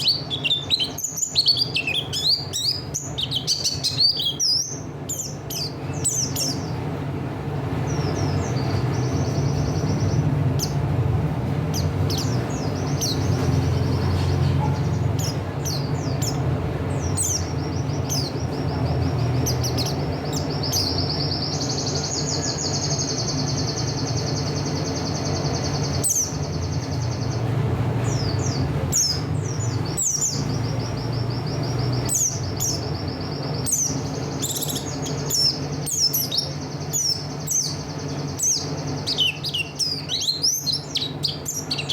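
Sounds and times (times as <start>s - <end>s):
bird singing high trills: 0.0s - 7.0s, 7.8s - 11.0s, 11.7s - 41.9s.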